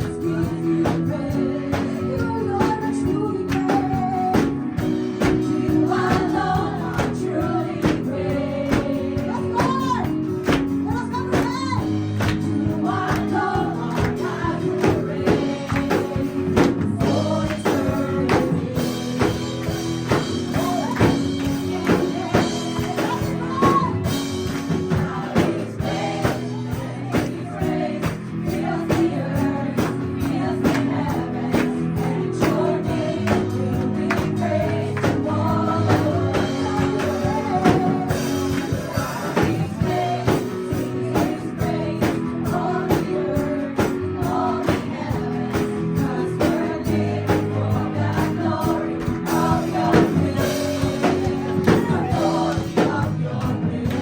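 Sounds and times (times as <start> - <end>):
people singing: 0.0 - 54.0
worship band music: 0.0 - 54.0
drum beat: 3.6 - 54.0.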